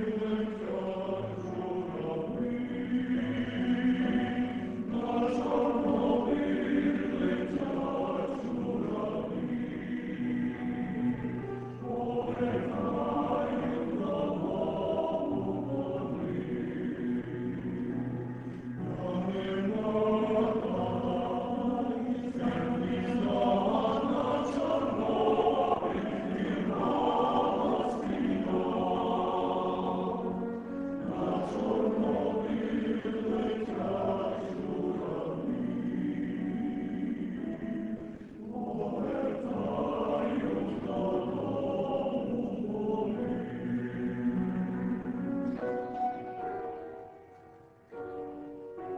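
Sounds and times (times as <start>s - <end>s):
male choir singing: 0.0s - 45.8s.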